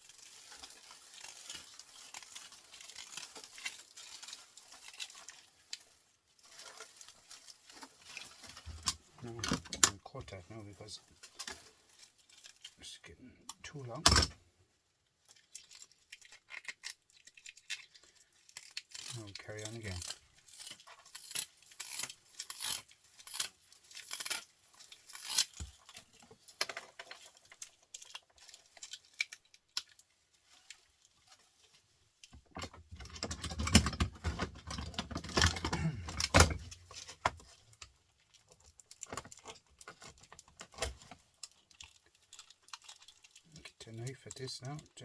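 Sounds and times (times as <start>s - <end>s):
wire rattling and rustling: 0.0s - 10.0s, 10.7s - 12.8s, 15.2s - 43.6s.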